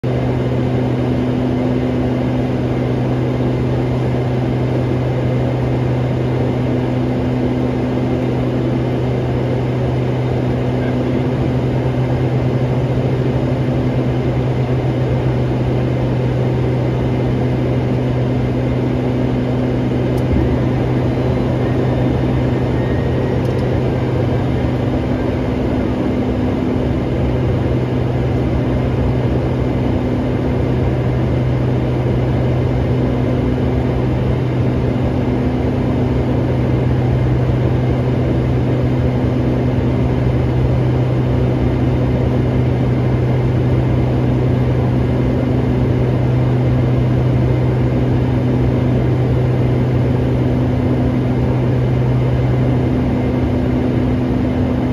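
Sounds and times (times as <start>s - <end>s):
light aircraft engine droning in cabin: 0.0s - 54.9s.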